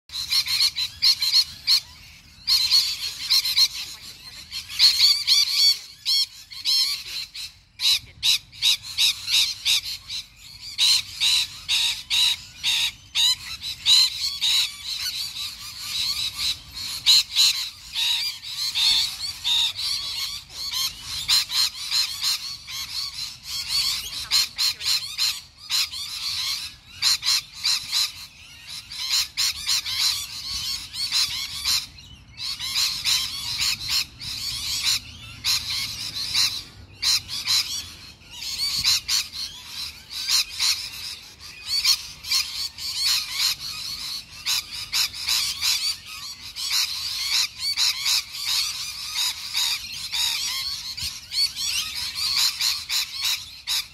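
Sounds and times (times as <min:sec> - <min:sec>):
lorikeets shrill chattering: 0:00.1 - 0:53.9.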